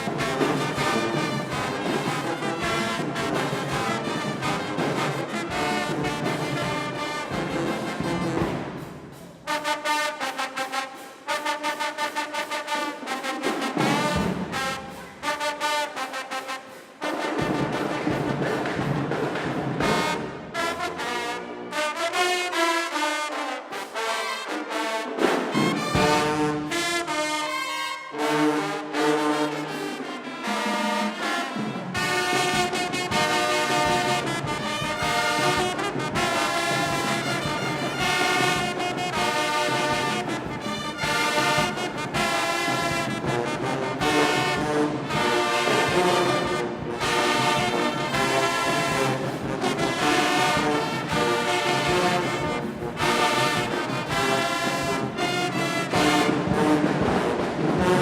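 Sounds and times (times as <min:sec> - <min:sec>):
brass band playing chords: 0:00.0 - 0:58.0.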